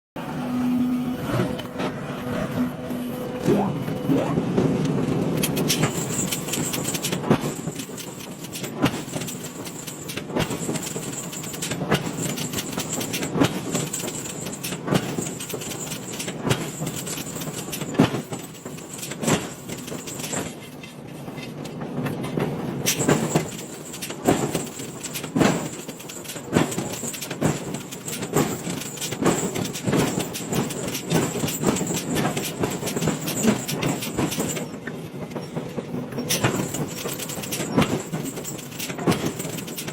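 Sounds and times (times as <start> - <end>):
workshop noise: 0.7 - 39.9.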